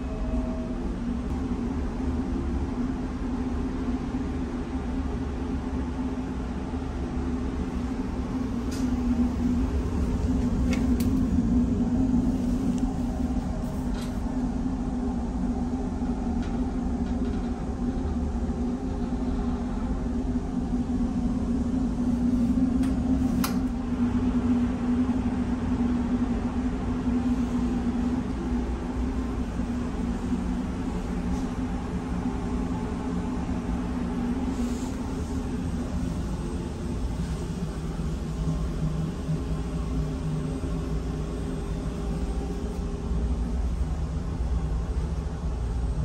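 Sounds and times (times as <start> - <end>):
ship engine drone: 0.0 - 46.0.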